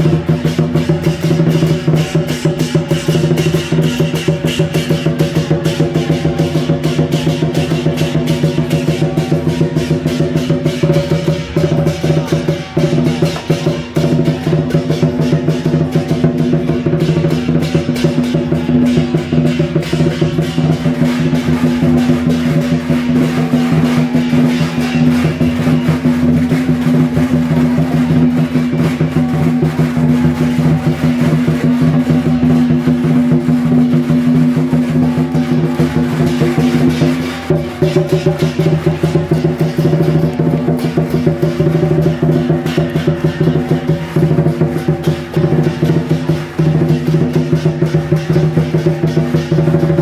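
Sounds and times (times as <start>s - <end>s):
fast drumming with crashing strikes: 0.0s - 50.0s.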